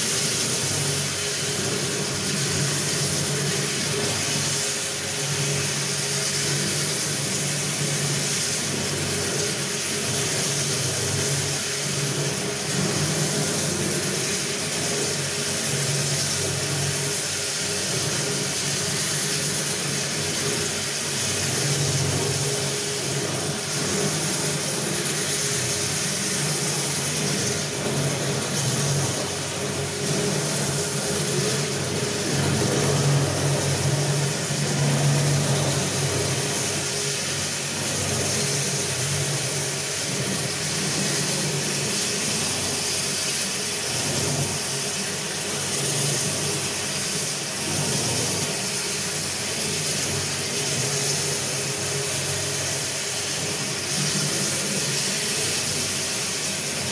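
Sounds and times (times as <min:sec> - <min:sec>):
floor polisher motor humming: 0:00.0 - 0:56.9.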